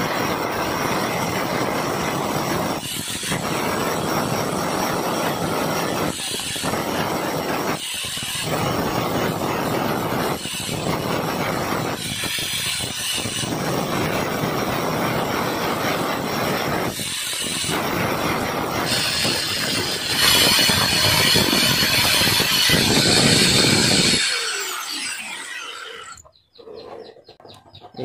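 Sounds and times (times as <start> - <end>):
angle grinder grinding metal: 0.0 - 26.3.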